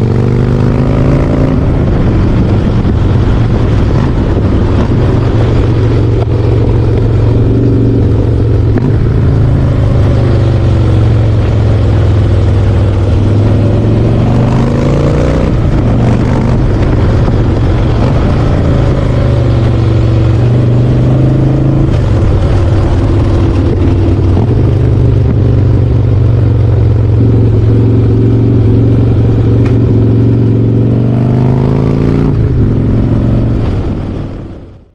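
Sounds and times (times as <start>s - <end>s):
motorcycle engine and exhaust: 0.0s - 34.9s.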